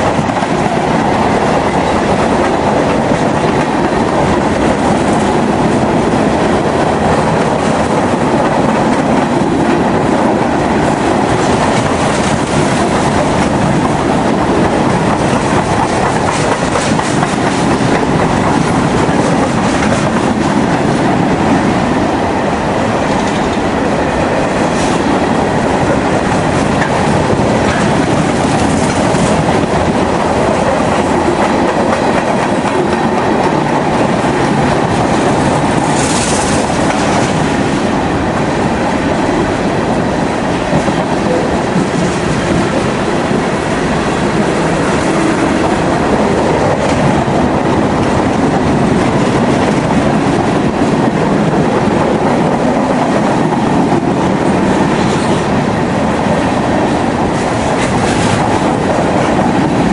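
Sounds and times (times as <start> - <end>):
train wheels running on rails: 0.0 - 59.9.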